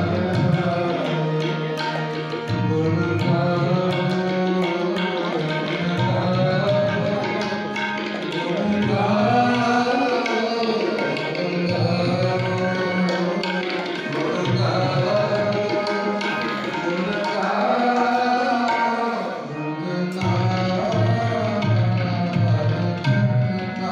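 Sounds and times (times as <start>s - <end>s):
harmonium chords: 0.0s - 23.9s
tabla strokes: 0.0s - 23.9s.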